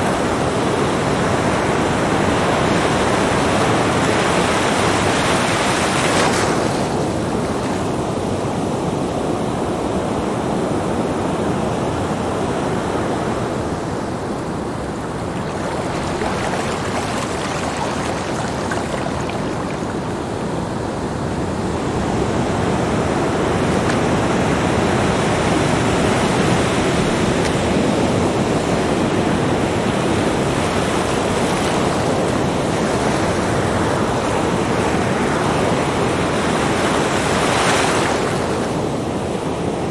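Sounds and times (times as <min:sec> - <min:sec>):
sea waves breaking on beach: 0:00.0 - 0:09.5, 0:12.3 - 0:39.9.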